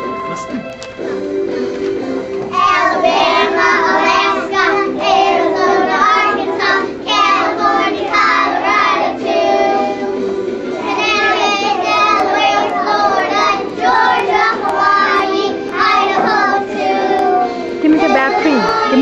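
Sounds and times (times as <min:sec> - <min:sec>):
children singing in unison: 0:00.9 - 0:19.0.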